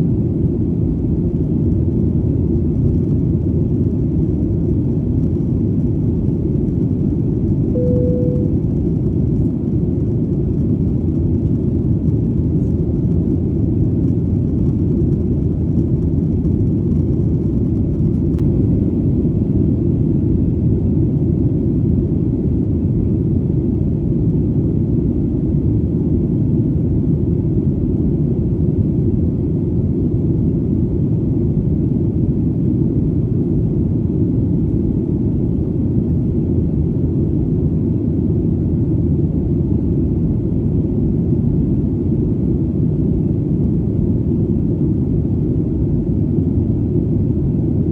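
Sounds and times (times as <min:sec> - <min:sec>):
airplane engine rumble: 0:00.0 - 0:47.9.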